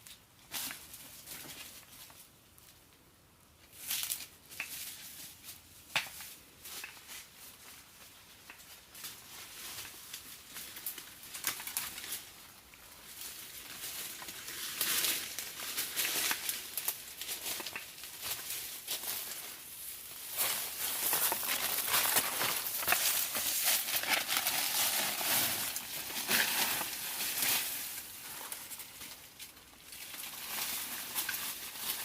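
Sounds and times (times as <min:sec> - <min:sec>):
rustling and crinkling: 0:00.0 - 0:03.0, 0:03.6 - 0:32.0.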